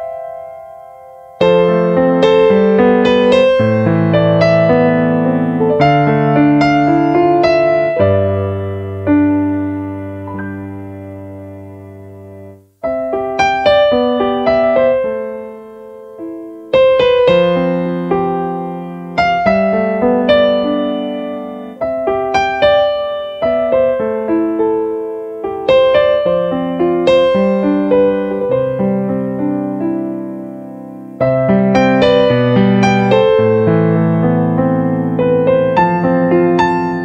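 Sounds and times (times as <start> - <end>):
gentle piano melody: 0.0 - 37.0.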